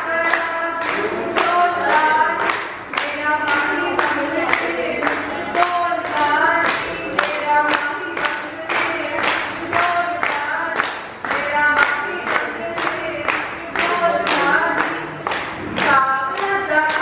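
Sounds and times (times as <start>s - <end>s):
group singing: 0.0s - 17.0s
people clapping in time: 0.0s - 17.0s.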